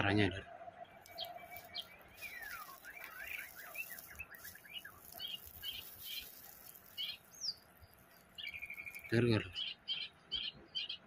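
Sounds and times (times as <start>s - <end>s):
bird singing whistled notes: 0.7s - 11.0s.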